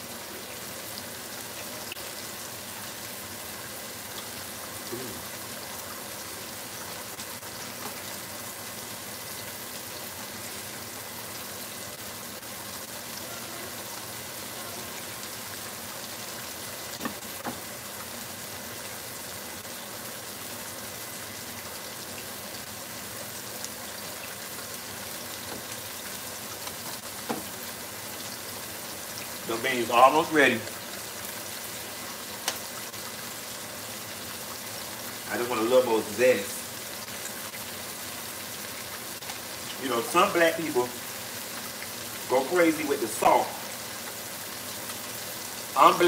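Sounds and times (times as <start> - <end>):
pork chops sizzling in oil: 0.0 - 46.0.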